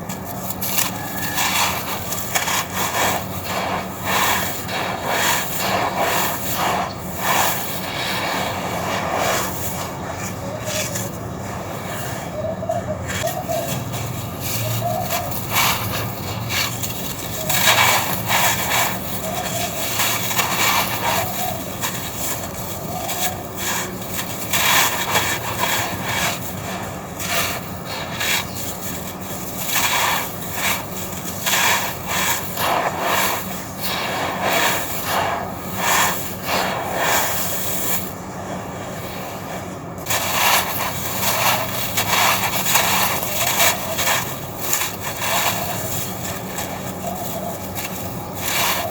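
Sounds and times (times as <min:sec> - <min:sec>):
cement crunching and crumbling: 0:00.0 - 0:12.3, 0:13.0 - 0:48.9.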